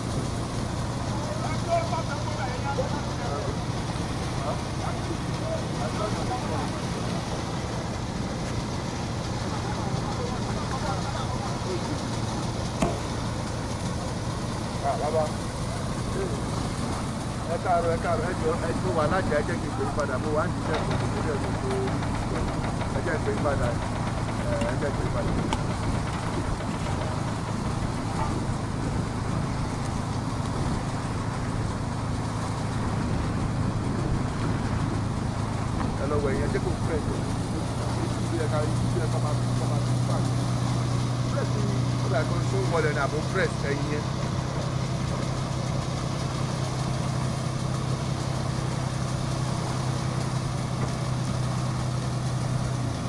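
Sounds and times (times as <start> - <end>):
crane engine droning: 0.0 - 53.0.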